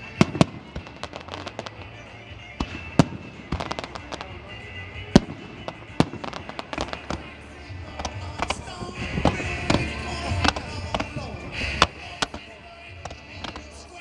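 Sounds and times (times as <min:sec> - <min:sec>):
fireworks bursting with bangs: 0:00.0 - 0:13.8
fireworks crackling: 0:00.0 - 0:14.0.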